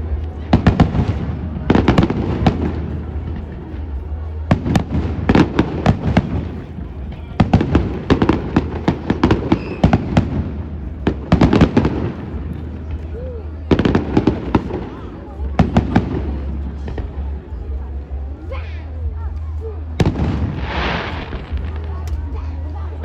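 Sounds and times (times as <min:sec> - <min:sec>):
fireworks bangs and crackling: 0:00.0 - 0:18.4, 0:19.3 - 0:23.0.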